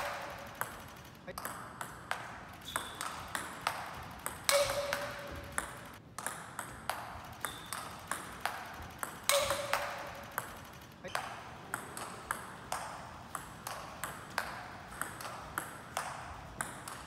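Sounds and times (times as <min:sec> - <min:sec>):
table tennis ball hits and bounces: 0:00.0 - 0:17.0.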